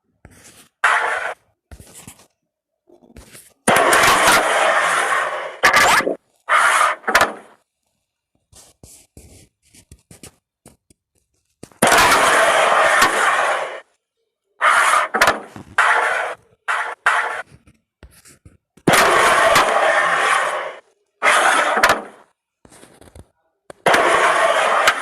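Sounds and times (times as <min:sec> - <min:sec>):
carrom pieces scraping on board: 0:00.2 - 0:02.3, 0:03.1 - 0:07.6, 0:08.5 - 0:13.8, 0:14.6 - 0:25.0.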